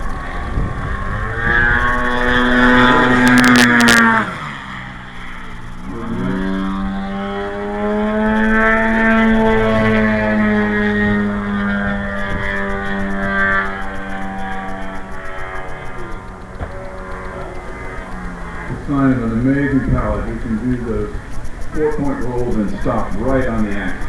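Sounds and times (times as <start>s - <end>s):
model plane engine: 0.0s - 24.0s.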